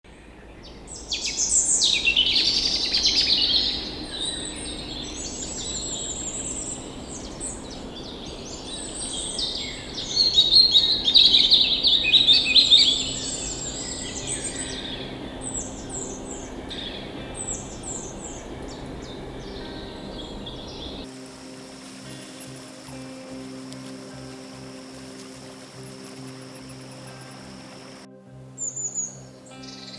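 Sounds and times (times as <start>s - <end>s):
birds chirping and warbling: 0.2s - 23.2s, 25.4s - 28.0s.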